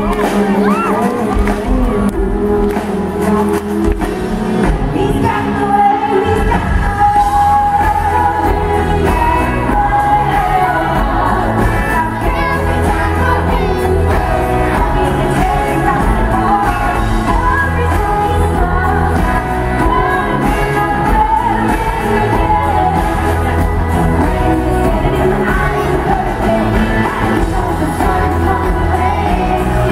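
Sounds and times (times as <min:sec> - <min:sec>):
amplified band: 0:00.0 - 0:29.9
woman singing into microphone: 0:00.0 - 0:29.9.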